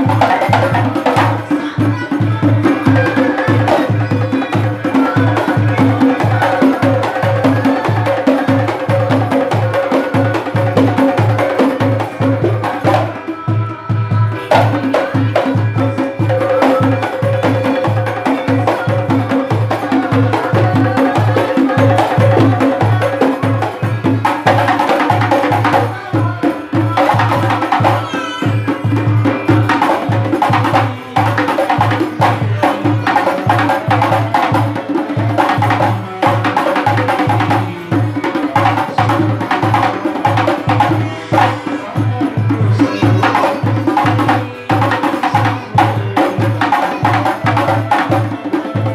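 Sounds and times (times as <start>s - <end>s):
frame drums beating: 0.0s - 48.9s
man singing into microphone: 0.0s - 48.9s.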